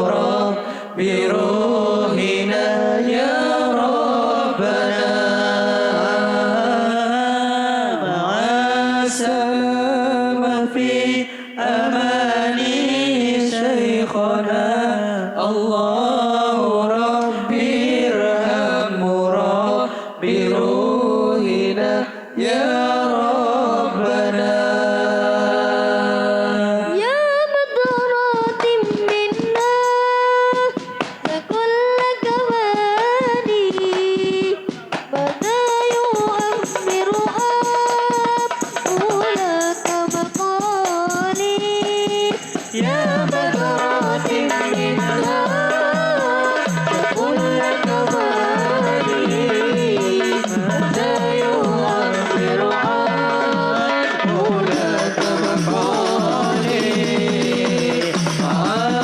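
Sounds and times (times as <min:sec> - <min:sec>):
melismatic singing: 0:00.0 - 0:59.0.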